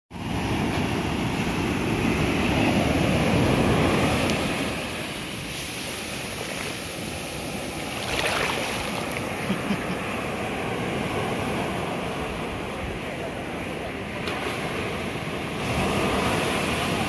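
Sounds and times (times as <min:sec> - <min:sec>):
sea waves breaking: 0:00.1 - 0:17.0.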